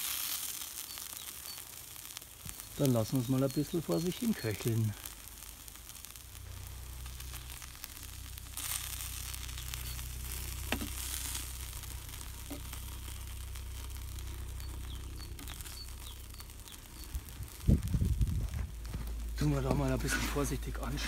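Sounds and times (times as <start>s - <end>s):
steak sizzling on hot metal: 0.0s - 21.0s
low steady rumble: 1.7s - 21.0s.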